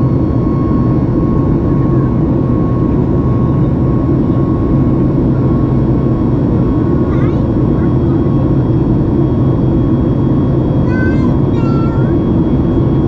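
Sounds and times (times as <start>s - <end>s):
jet engine cabin rumble: 0.0s - 13.0s
steady high engine tone: 0.0s - 13.0s.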